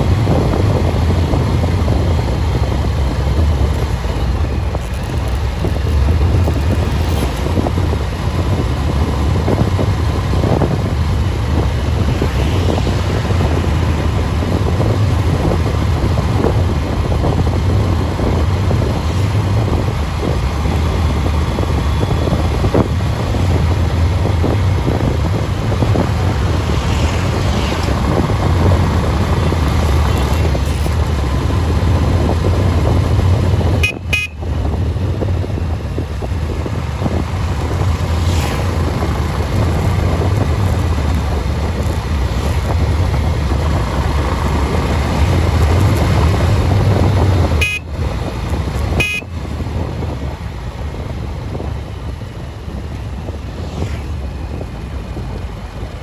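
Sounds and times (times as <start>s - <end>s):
vehicle rumbling on highway: 0.0s - 56.0s
wind buffeting microphone: 0.0s - 56.0s.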